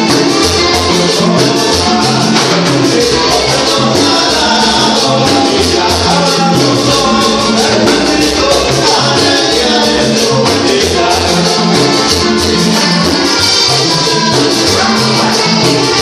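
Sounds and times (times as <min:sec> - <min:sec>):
bass line: 0:00.0 - 0:16.0
button accordion melody: 0:00.0 - 0:16.0
congas: 0:00.0 - 0:16.0
man singing: 0:00.0 - 0:16.0
shaker-like percussion: 0:00.0 - 0:16.0.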